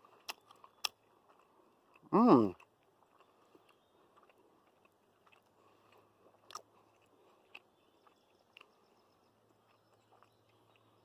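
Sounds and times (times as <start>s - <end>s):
mouth chewing: 0.0s - 11.0s.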